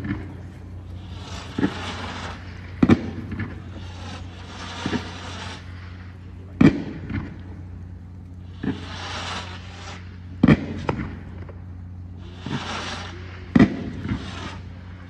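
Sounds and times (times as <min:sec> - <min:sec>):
fireworks bangs: 0:00.0 - 0:15.0
fireworks crackling: 0:00.0 - 0:15.0
steady low hum: 0:00.0 - 0:15.0.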